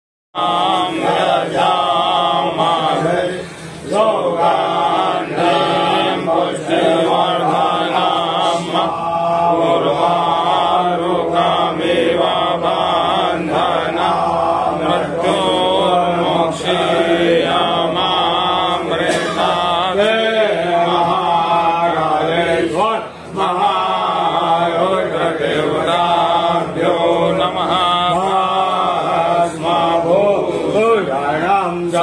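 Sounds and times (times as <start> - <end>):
voices chanting mantras: 0.4 - 32.0.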